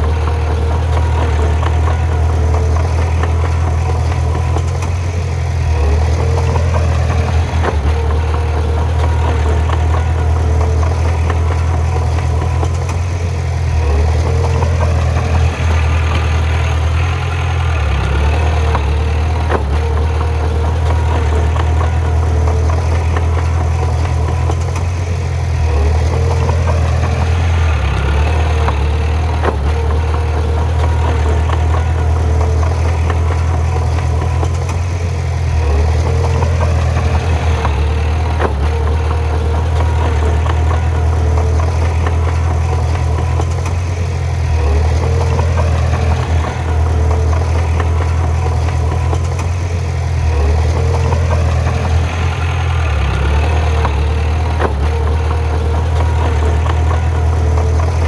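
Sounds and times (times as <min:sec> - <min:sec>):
clanks and rattles: 0:00.0 - 0:58.0
heavy diesel engine running: 0:00.0 - 0:58.0.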